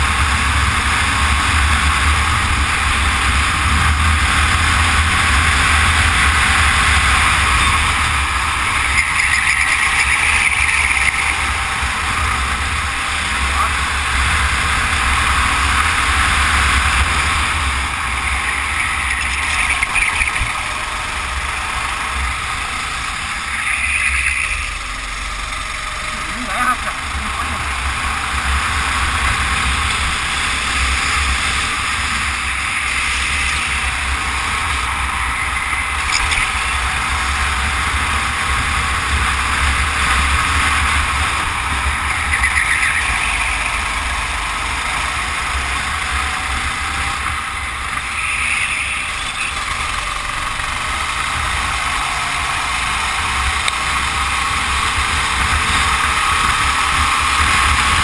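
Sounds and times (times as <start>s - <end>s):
continuous low rumble: 0.0s - 58.0s
go-kart engine running: 0.0s - 58.0s.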